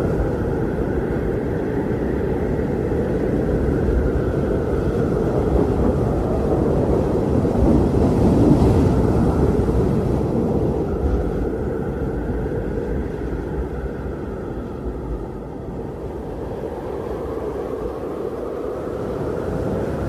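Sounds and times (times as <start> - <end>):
strong wind roaring: 0.0 - 20.0.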